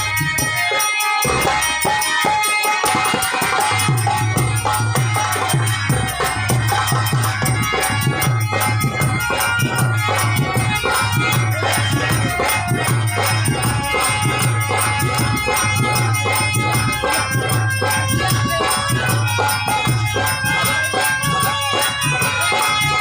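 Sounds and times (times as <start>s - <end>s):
harmonium melody: 0.0s - 23.0s
rhythmic percussion: 0.0s - 23.0s.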